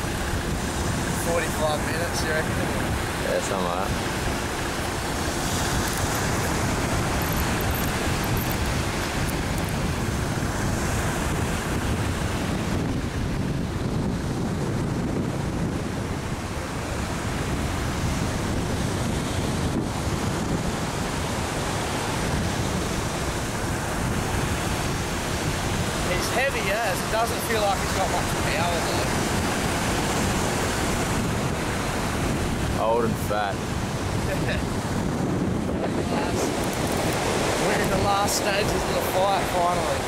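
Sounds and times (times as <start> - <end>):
surf washing on a beach: 0.0 - 40.0
wind buffeting microphone: 0.0 - 40.0.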